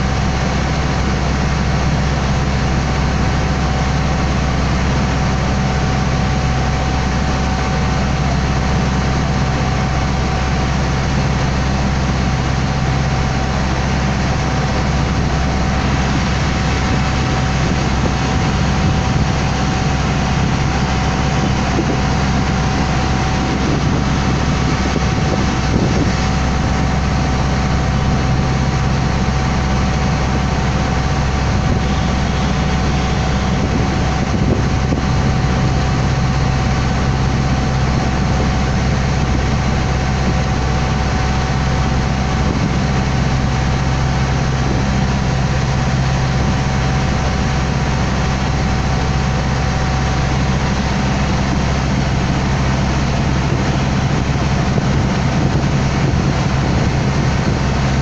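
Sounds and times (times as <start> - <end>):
boat engine droning: 0.0 - 58.0
thin steady whine: 0.0 - 58.0.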